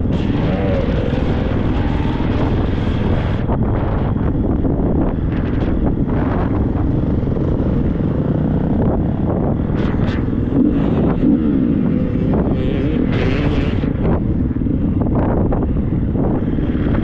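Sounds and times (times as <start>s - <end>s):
motorcycle engine revving: 0.0s - 17.0s
wind buffeting microphone: 0.0s - 17.0s.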